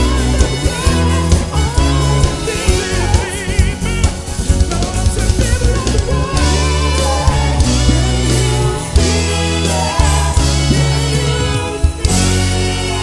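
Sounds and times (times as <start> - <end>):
bass: 0.0 - 13.0
drum kit: 0.0 - 13.0
electric guitar: 0.0 - 13.0
person singing: 0.0 - 13.0.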